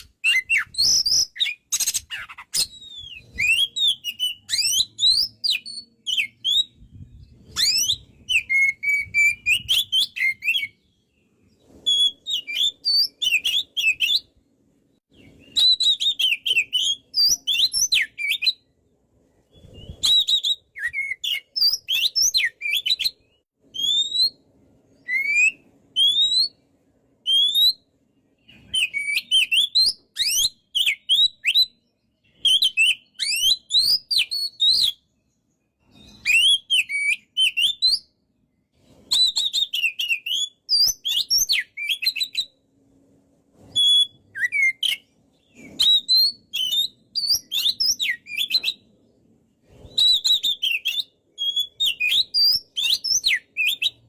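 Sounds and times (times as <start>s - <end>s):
bird singing whistled phrases: 0.0s - 10.9s, 11.7s - 14.3s, 15.1s - 18.7s, 19.5s - 26.6s, 27.2s - 27.8s, 28.4s - 35.1s, 35.9s - 38.1s, 39.0s - 42.6s, 43.7s - 48.9s, 49.8s - 54.0s.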